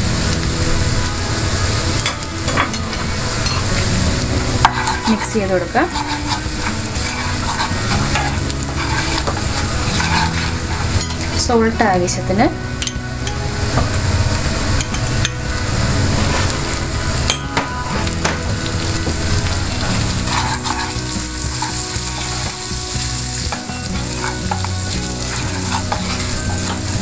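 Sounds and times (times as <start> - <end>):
garlic sizzling in butter: 0.0 - 27.0
wooden spoon stirring: 1.6 - 12.2, 15.9 - 27.0.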